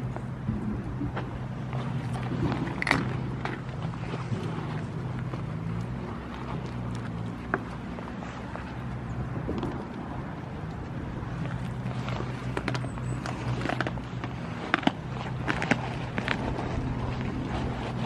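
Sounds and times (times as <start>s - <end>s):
steady low hum: 0.0s - 18.0s
wind rumbling on microphone: 0.0s - 18.0s.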